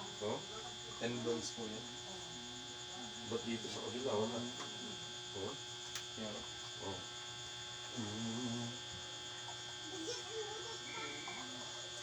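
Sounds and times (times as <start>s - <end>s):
quiet murmuring voices: 0.0s - 7.2s, 7.8s - 12.0s
electrical hum: 0.0s - 12.0s.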